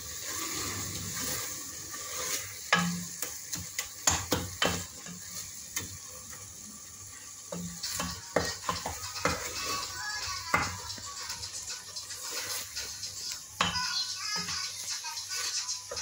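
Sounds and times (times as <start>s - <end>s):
greens sizzling: 0.0s - 16.0s.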